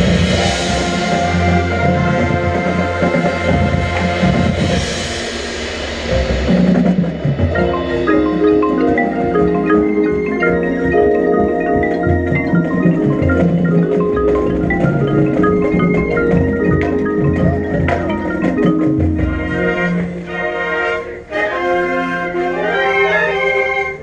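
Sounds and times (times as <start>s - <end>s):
marimbas and xylophones playing: 0.0s - 24.0s.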